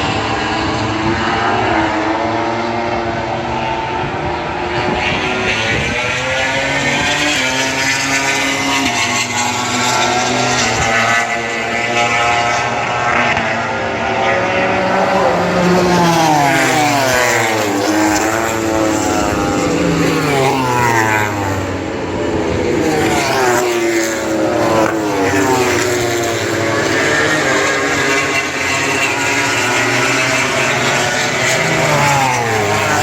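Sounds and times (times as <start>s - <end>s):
racing motorcycles passing: 0.0s - 33.0s.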